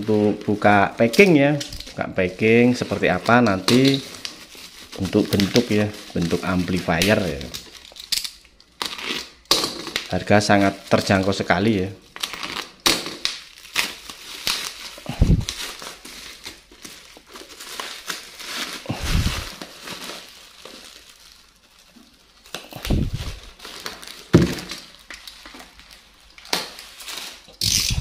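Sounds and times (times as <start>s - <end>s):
plastic bag crinkling and tearing: 0.0s - 28.0s.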